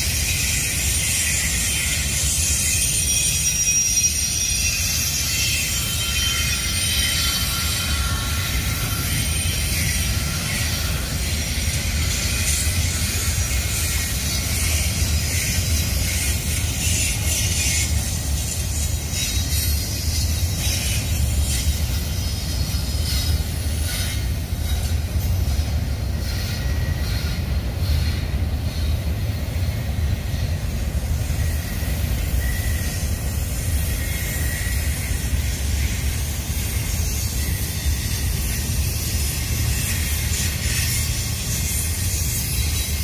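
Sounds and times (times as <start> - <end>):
faint wheel squeal: 0.0 - 43.0
freight train rumbling on rails: 0.0 - 43.0.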